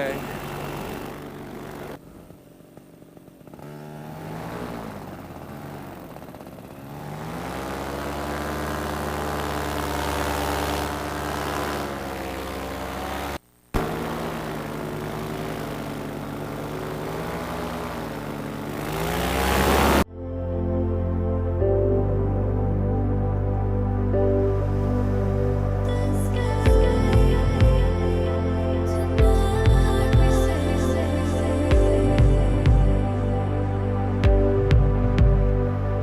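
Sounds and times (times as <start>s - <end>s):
paramotor engine and propeller: 0.0s - 20.1s, 24.1s - 36.0s.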